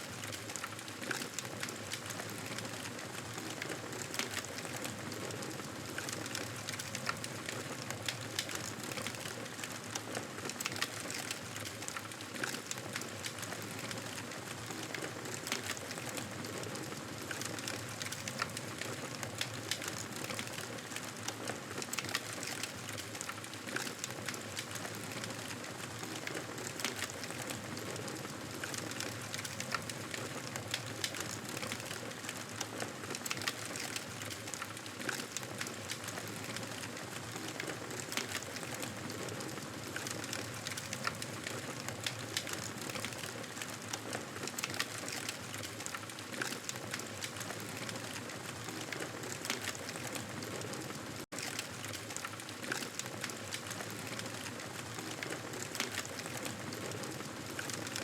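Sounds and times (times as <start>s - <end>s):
campfire crackling: 0.2s - 58.0s.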